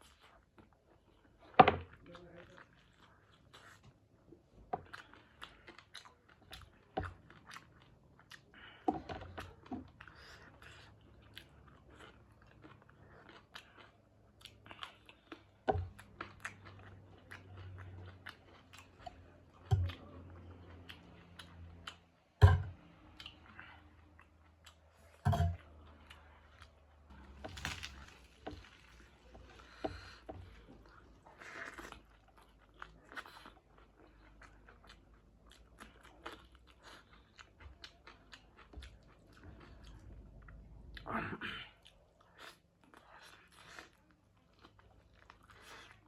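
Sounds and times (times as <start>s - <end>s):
person chewing and crunching food: 0.0s - 46.0s.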